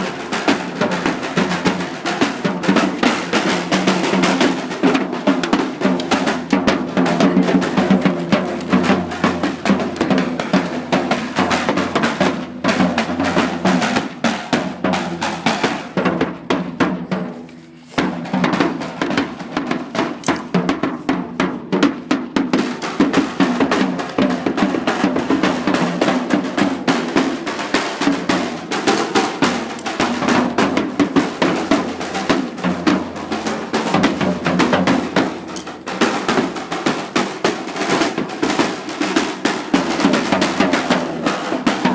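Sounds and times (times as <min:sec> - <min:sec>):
snare drum strokes and rolls: 0:00.0 - 0:41.9.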